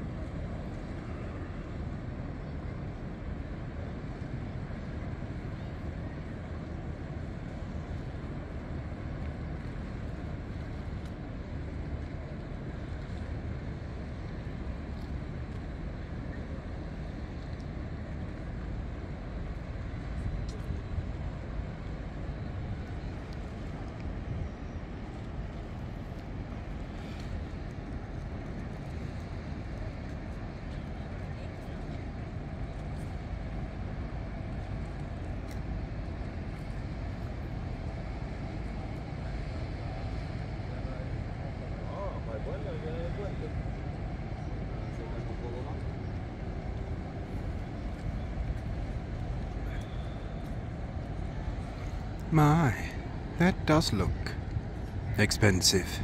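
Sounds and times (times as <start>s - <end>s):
wind rumble on microphone: 0.0s - 52.3s
outdoor riverside background noise: 0.0s - 56.0s
distant traffic: 6.5s - 56.0s.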